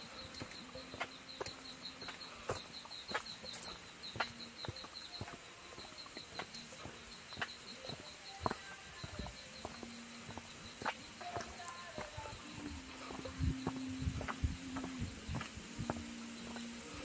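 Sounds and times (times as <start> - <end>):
footsteps on dry leaves and twigs: 0.0 - 17.0
high pulsing call: 0.0 - 17.0.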